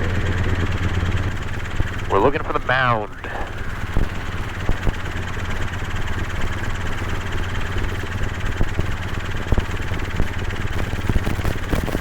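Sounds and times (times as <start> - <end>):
helicopter engine and rotor noise: 0.0 - 12.0.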